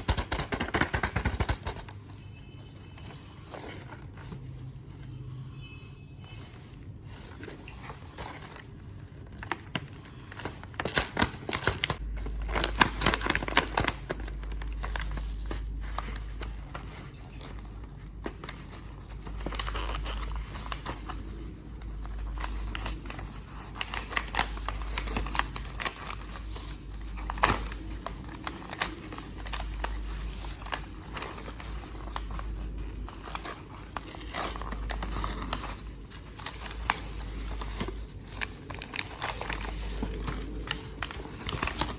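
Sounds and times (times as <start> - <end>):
packaging crinkling and rustling: 0.0 - 5.2, 6.2 - 41.9.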